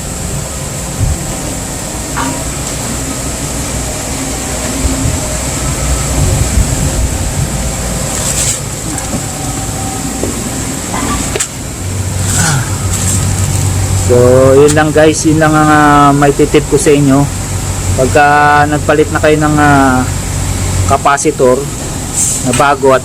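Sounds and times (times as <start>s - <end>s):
compressor humming: 0.0s - 23.0s
condenser fan blowing: 0.0s - 23.0s
thin high whine: 0.0s - 23.0s.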